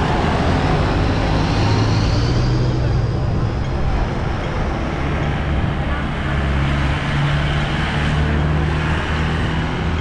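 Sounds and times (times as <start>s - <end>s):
road noise: 0.0s - 10.0s
vehicles driving past: 0.0s - 10.0s.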